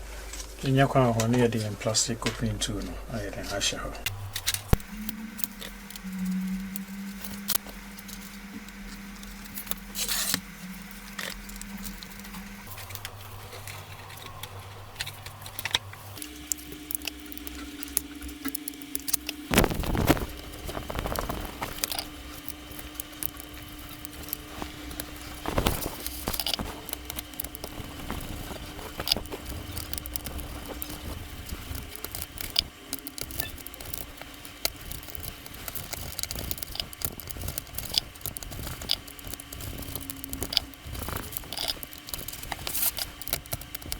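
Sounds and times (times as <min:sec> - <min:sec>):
steady low hum: 0:00.0 - 0:43.9
plastic tools clicking and scraping: 0:04.1 - 0:43.9.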